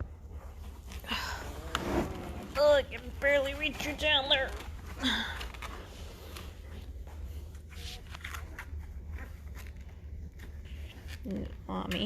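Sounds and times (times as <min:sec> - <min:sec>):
low steady hum: 0:00.0 - 0:12.0
soft rustling: 0:00.0 - 0:12.0.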